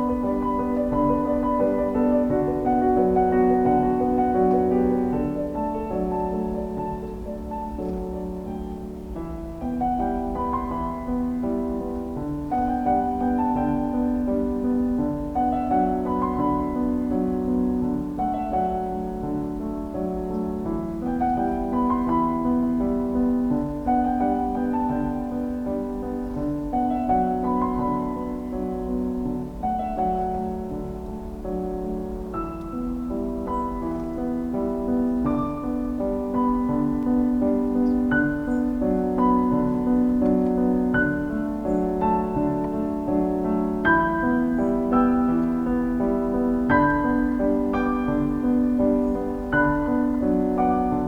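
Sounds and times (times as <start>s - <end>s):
slow solo piano music: 0.0s - 51.0s.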